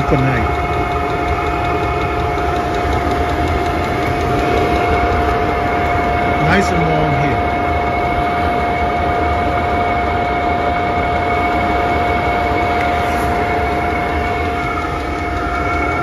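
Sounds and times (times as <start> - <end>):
heater blower whine: 0.0 - 16.0.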